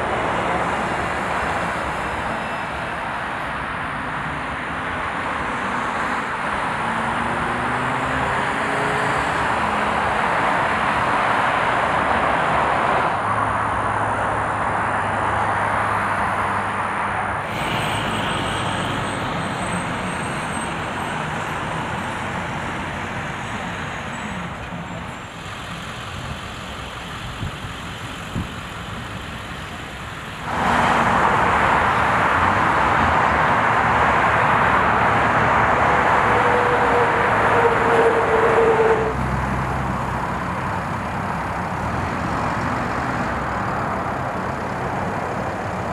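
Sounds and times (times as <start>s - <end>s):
passing road traffic: 0.0s - 45.9s.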